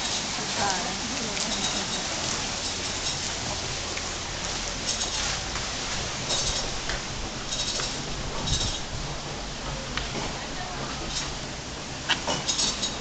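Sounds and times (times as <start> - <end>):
water splashing off water wheel: 0.0 - 13.0.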